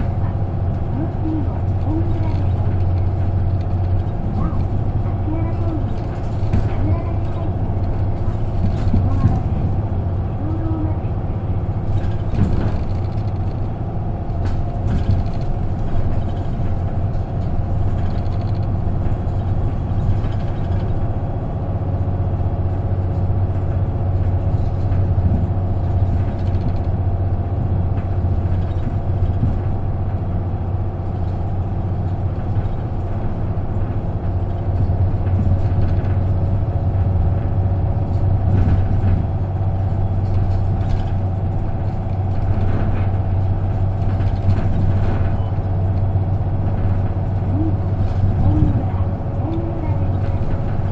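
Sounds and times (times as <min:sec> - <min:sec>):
bus diesel engine droning: 0:00.0 - 0:50.9
faint rattles: 0:00.0 - 0:50.9
road noise: 0:00.0 - 0:50.9.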